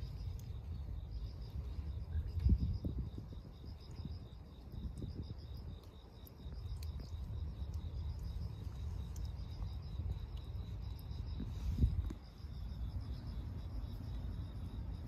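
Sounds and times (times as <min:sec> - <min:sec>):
insect chirping: 0:00.0 - 0:15.0
low outdoor rumble: 0:00.0 - 0:15.0.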